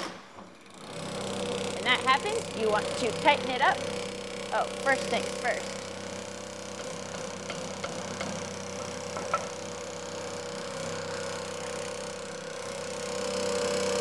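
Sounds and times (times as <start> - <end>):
wood lathe motor hum: 0.4 - 14.0.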